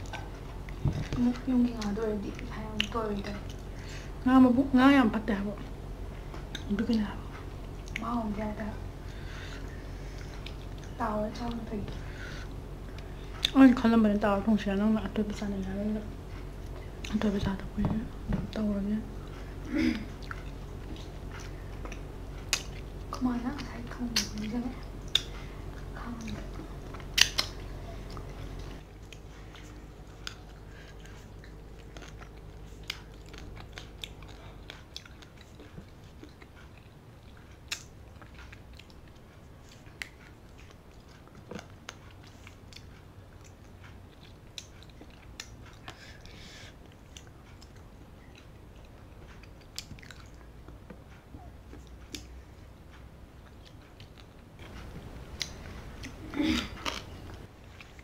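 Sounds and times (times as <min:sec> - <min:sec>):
chewing and wet mouth sounds: 0:00.0 - 0:58.0
low steady hum: 0:00.0 - 0:58.0.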